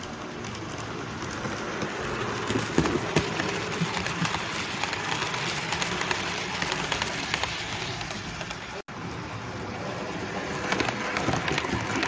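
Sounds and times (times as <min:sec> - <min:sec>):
wheels clicking over rail joints: 0:00.0 - 0:08.8, 0:09.7 - 0:12.0
model train rolling rumble: 0:00.0 - 0:12.0.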